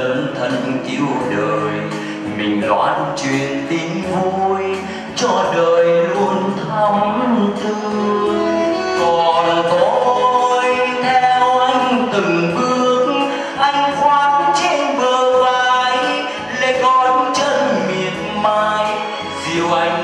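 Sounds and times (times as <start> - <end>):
person singing with accompaniment: 0.0 - 20.0.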